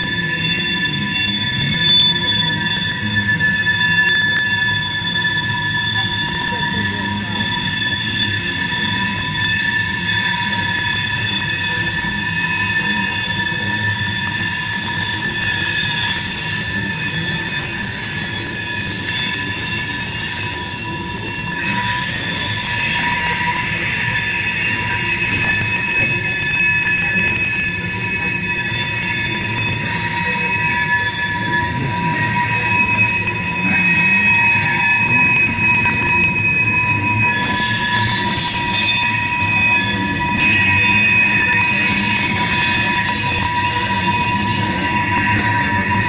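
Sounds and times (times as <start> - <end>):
harsh wheel screech: 0.0 - 46.0
low rumble of rail cars: 0.0 - 46.0
train wheels squealing: 0.0 - 46.0.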